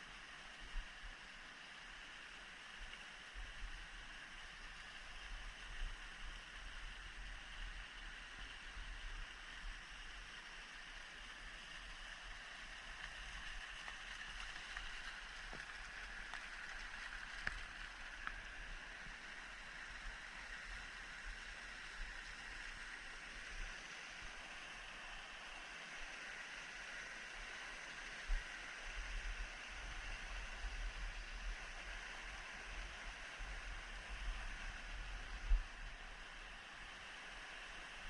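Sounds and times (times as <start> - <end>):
stream running over rocks: 0.0 - 38.0.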